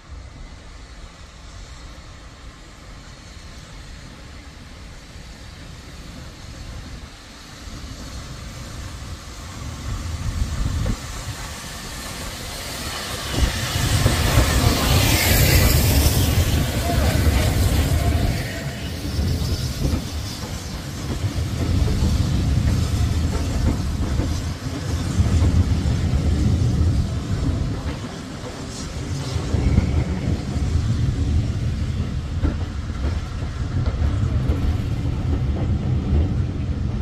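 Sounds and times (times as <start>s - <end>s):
loud hiss of steam: 0.0s - 37.0s
steam locomotive passing: 0.0s - 37.0s
wheels rumbling on rail: 0.0s - 37.0s.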